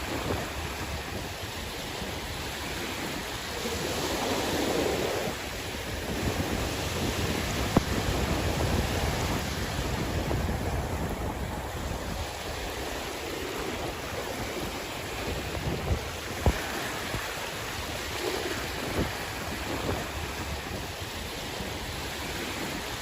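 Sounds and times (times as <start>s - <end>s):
sea waves washing in: 0.0s - 23.0s
wind buffeting microphone: 0.0s - 23.0s.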